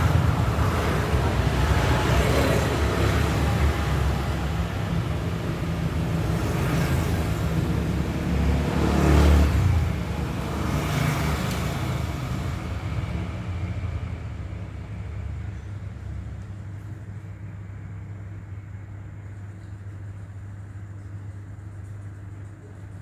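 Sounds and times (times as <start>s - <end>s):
vehicles passing: 0.0s - 19.4s.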